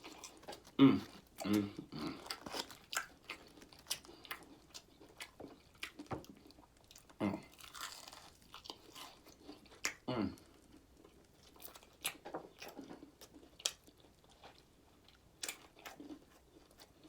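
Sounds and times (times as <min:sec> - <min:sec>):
chewing crispy fried food: 0:00.0 - 0:17.0.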